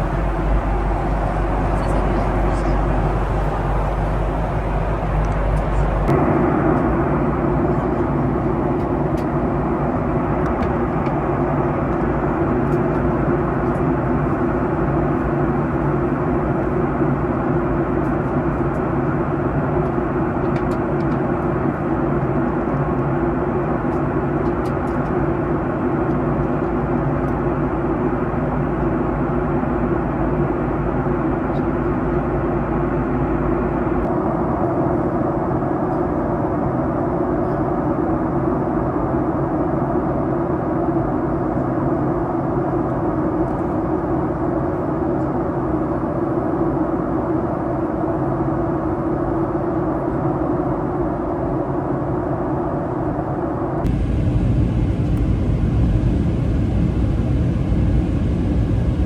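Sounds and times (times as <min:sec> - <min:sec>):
airplane cabin engine hum: 0:00.0 - 0:59.0.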